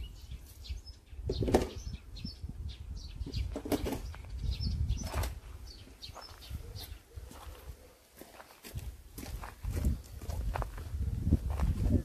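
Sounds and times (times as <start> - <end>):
wind rumble on microphone: 0.0 - 7.8, 8.7 - 12.0
small birds chirping: 0.0 - 12.0.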